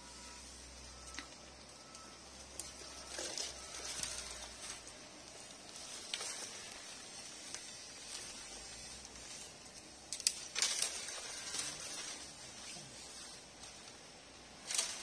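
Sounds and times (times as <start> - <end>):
branches and leaves crackling: 0.0 - 15.0.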